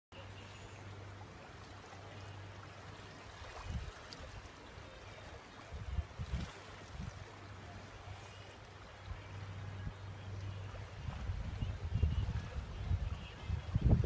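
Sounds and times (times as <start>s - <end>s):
river water lapping: 0.1s - 14.0s.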